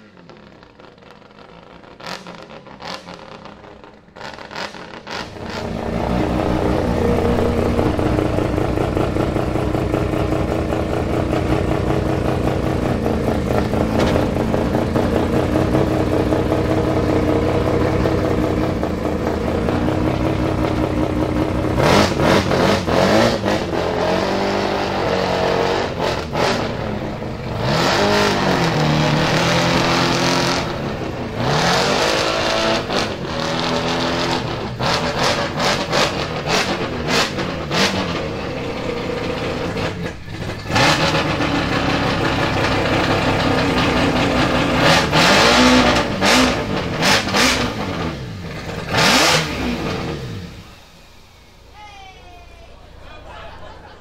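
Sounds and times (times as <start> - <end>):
rotary engine idling and revving: 0.0 - 51.6.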